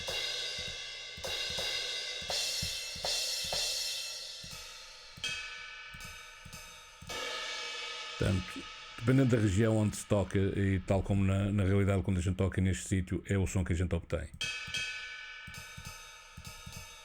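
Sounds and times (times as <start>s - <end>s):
cymbal hits ringing: 0.0s - 11.2s, 14.4s - 17.0s.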